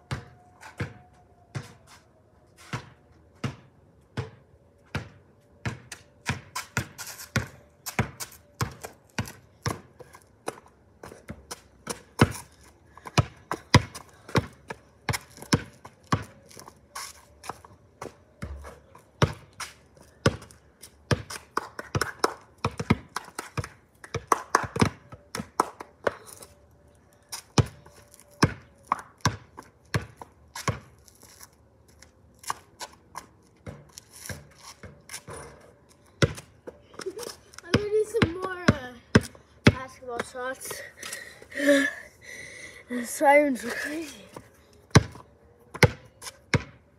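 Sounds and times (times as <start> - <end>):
basketball bouncing on concrete: 0.0 - 1.8, 2.7 - 16.7, 17.5 - 26.2, 27.4 - 31.0, 32.4 - 40.9, 44.3 - 46.8.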